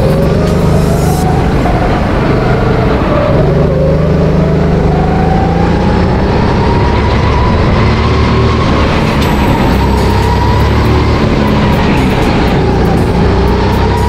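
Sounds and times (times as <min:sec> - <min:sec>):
go-kart engine accelerating: 0:00.0 - 0:14.0.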